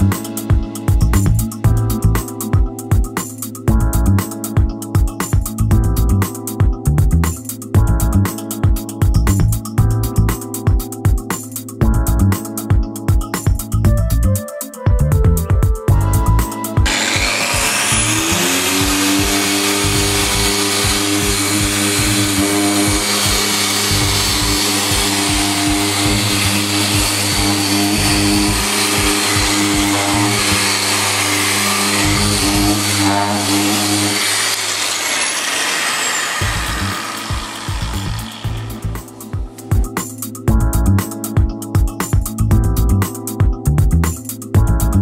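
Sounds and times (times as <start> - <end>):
electronic music with buzzing synth: 0.0 - 34.5, 36.4 - 45.0.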